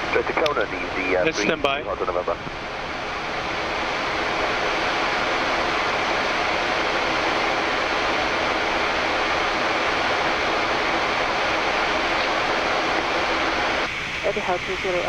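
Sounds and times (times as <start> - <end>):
airflow and engine noise: 0.0 - 15.0.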